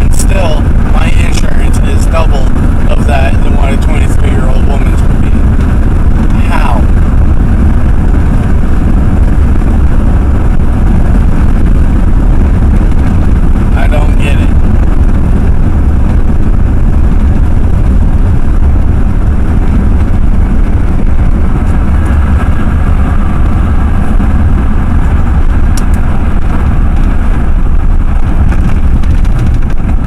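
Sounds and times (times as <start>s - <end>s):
pickup truck engine and road rumble: 0.0s - 30.0s.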